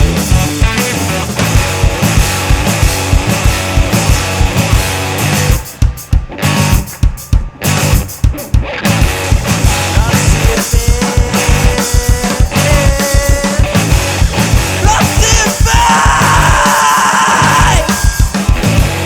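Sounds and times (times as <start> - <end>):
drums hitting hard: 0.0 - 19.0
rock band playing live: 0.0 - 19.0.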